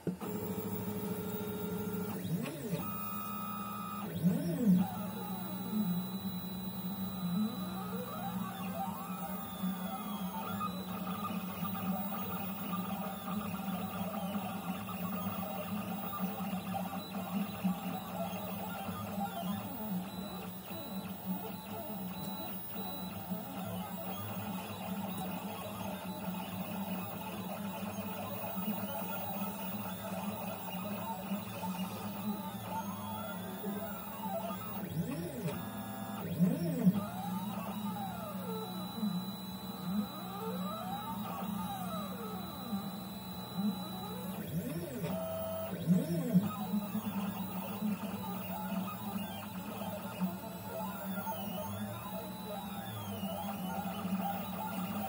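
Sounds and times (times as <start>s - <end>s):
stepper motors whining: 0.2s - 55.0s.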